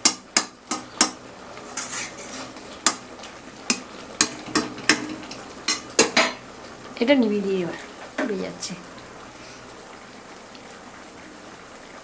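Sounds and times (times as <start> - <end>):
chutney sizzling: 0.0 - 12.0.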